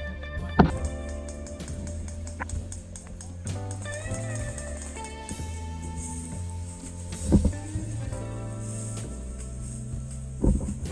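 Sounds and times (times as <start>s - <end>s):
guitar background music: 0.0s - 10.9s.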